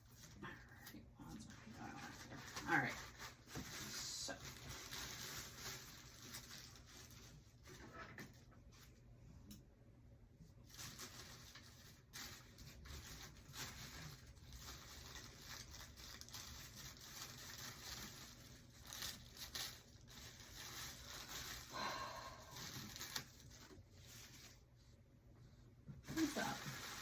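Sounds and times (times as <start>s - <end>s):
paper packaging crinkling: 0.0s - 9.0s, 10.6s - 24.9s, 25.9s - 27.0s.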